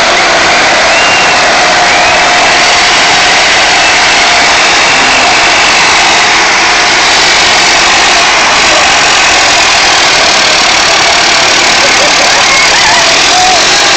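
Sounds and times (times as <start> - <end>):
tractor engine running: 0.0 - 13.9.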